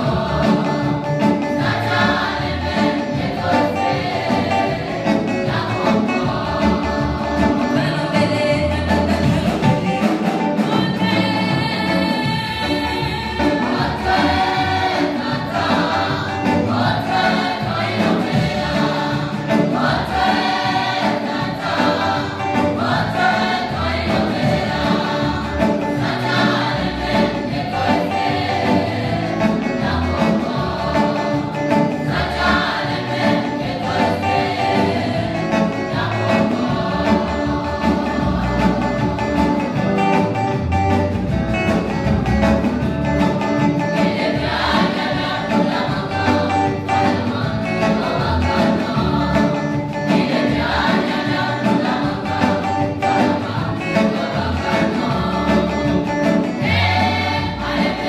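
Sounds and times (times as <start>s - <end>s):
choir singing gospel: 0.0s - 58.0s.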